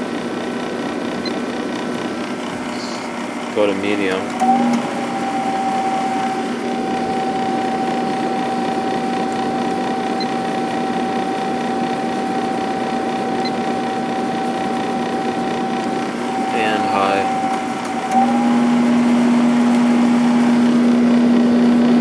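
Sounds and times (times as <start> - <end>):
air conditioner blower rush: 0.0 - 22.0
fan motor and compressor hum: 0.0 - 22.0.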